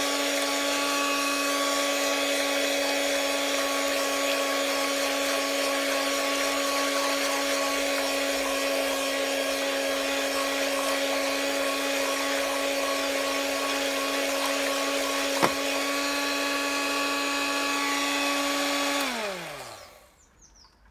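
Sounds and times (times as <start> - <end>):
electric hand mixer running: 0.0 - 20.2.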